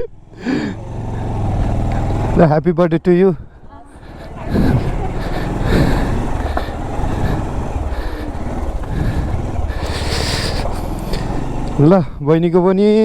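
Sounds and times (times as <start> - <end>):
motorcycle engine rumble: 0.0 - 13.0
road noise: 0.0 - 13.0.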